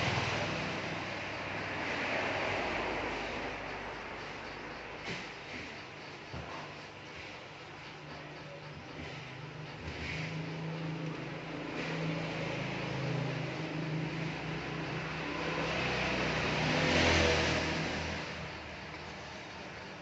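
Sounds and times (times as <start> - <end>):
vehicle engine passing by: 0.0 - 5.7, 8.9 - 20.0.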